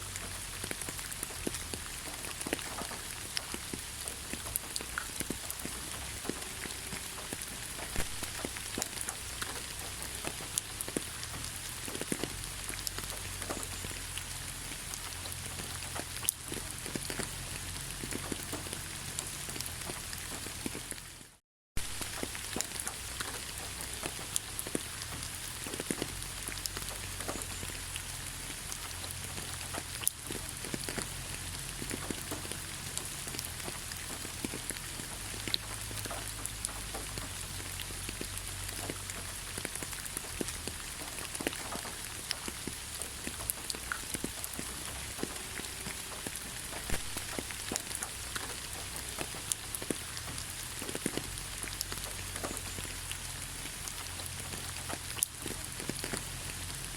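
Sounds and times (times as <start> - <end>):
rain falling on a surface: 0.0 - 56.9.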